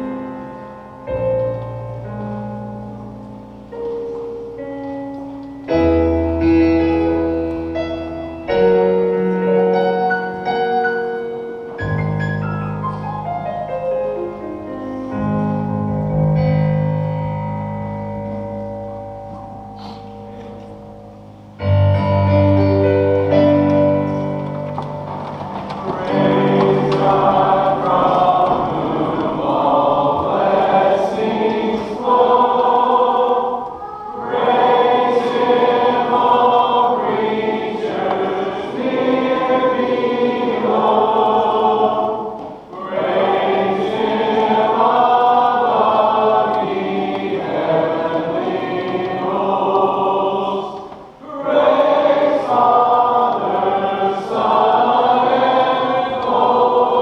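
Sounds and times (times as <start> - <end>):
congregation singing: 0.0 - 4.4, 5.6 - 12.0, 19.4 - 57.0.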